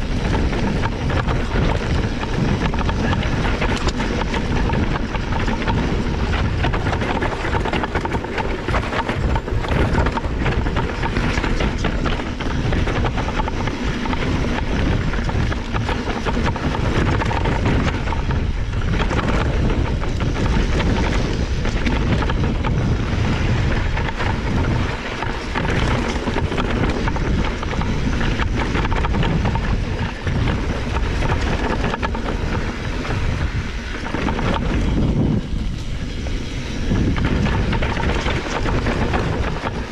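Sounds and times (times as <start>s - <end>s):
bike rattling over rocks: 0.0s - 39.9s
bike tyres rolling on dirt: 0.0s - 39.9s
wind rushing over microphone: 0.0s - 39.9s.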